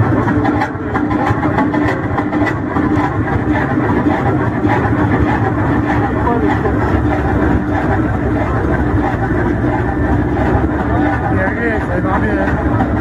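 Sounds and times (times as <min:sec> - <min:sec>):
engine knocking: 0:00.0 - 0:13.0
large engine humming: 0:00.0 - 0:13.0.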